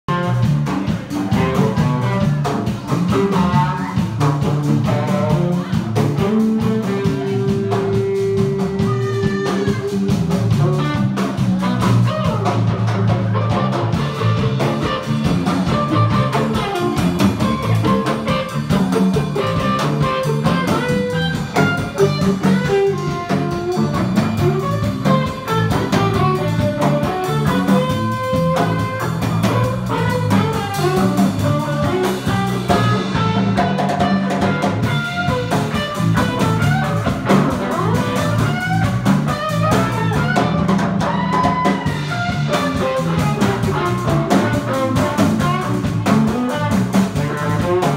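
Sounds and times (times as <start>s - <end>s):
drum kit: 0.1s - 47.9s
electric guitars: 0.1s - 47.9s.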